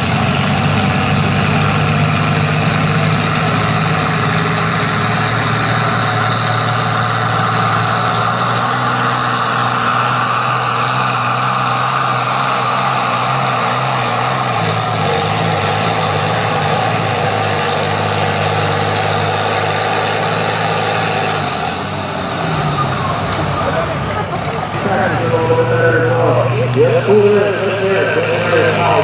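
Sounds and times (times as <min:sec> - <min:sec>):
tractor engine running loudly: 0:00.0 - 0:29.0.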